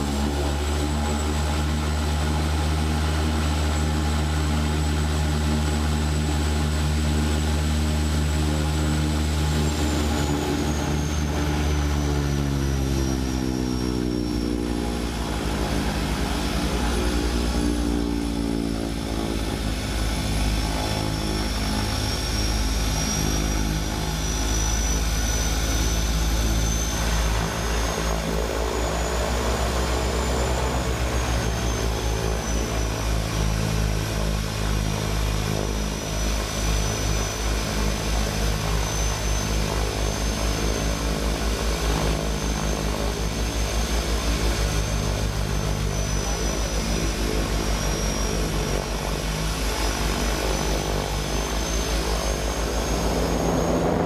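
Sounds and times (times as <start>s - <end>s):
high turbine whine: 0.0s - 54.0s
turboprop engines droning: 0.0s - 54.0s.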